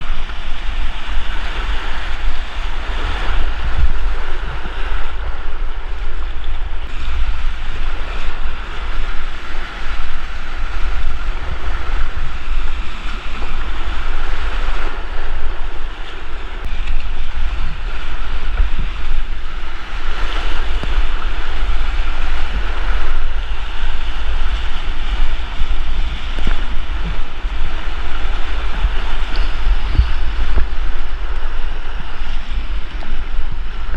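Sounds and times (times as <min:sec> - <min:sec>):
whitewater creek rushing: 0:00.0 - 0:33.9
wind buffeting microphone: 0:00.0 - 0:33.9.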